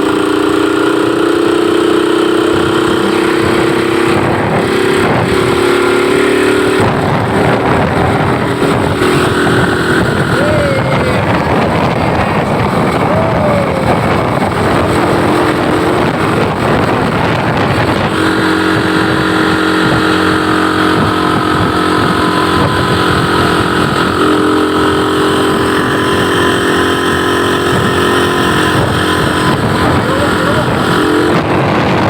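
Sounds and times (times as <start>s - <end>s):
droning engine tone: 0.0s - 32.0s
vehicle engine and road noise: 0.0s - 32.0s.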